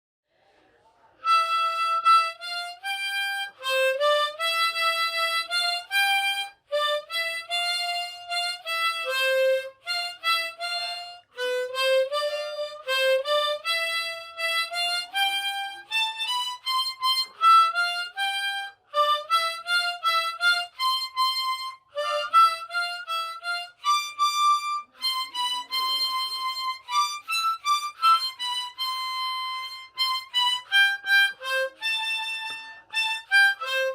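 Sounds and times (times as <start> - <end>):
harmonica melody: 1.2 - 33.9.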